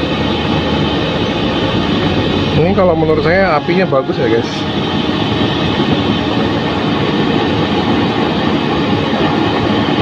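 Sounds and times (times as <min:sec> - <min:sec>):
gas burner roaring: 0:00.0 - 0:10.0.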